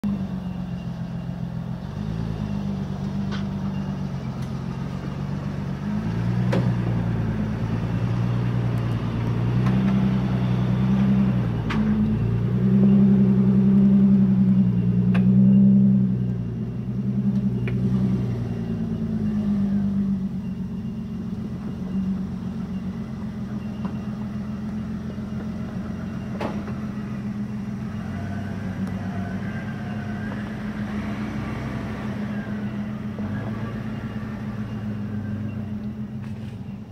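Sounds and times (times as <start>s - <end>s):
off-road vehicle engine low revs: 0.0s - 36.9s
second vehicle engine steady: 0.0s - 36.9s.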